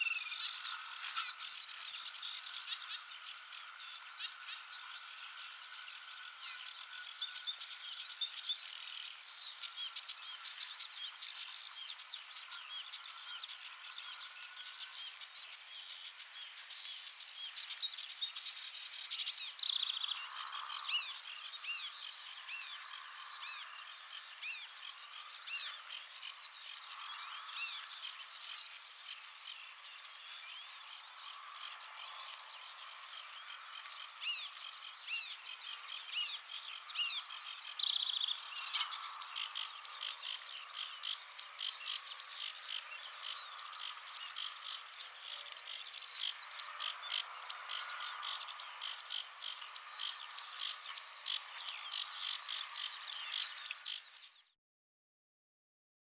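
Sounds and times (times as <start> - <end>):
background bird chirping: 0.0 - 54.6
bird song with ticks and jangle: 0.0 - 54.6.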